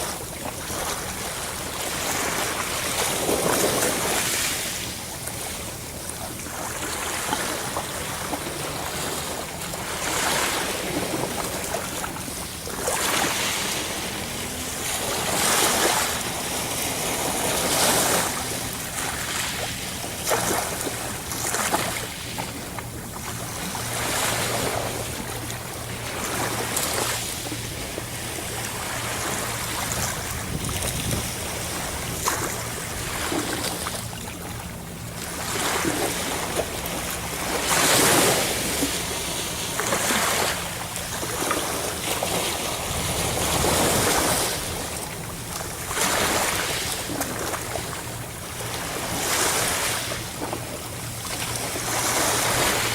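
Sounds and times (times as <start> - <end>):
sea waves breaking: 0.0 - 52.9.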